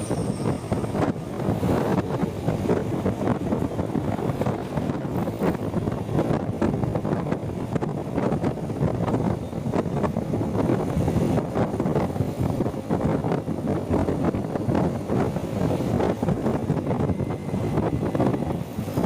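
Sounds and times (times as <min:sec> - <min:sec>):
road and traffic noise: 0:00.0 - 0:19.0
wind buffeting microphone: 0:00.0 - 0:19.0.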